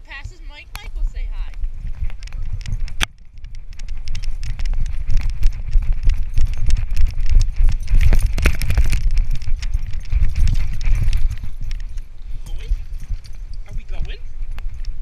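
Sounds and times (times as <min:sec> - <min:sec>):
low rumble of mount buffeting microphone: 0:00.0 - 0:15.0.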